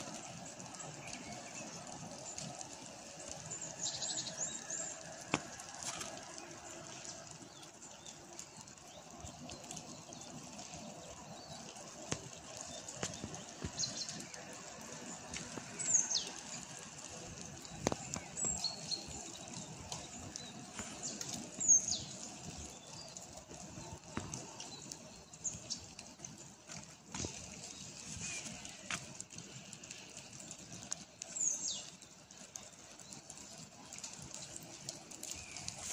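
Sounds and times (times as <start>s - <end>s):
brook running: 0.0s - 35.9s
songbirds calling: 0.1s - 35.9s.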